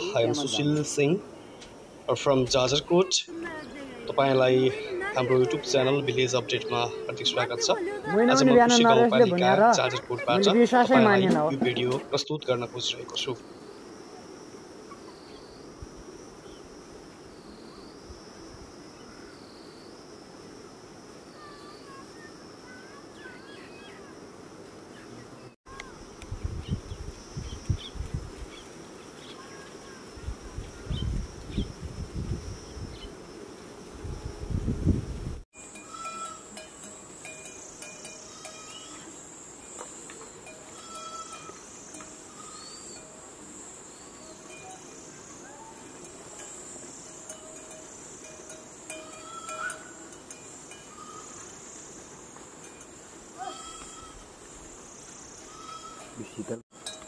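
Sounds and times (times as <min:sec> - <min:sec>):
insects droning: 0:00.0 - 0:57.0
short faint insect calls: 0:00.0 - 0:57.0.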